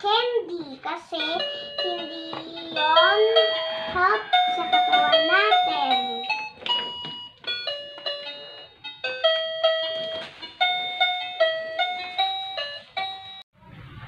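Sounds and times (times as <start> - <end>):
chiming electronic notes melody: 1.6 - 13.4.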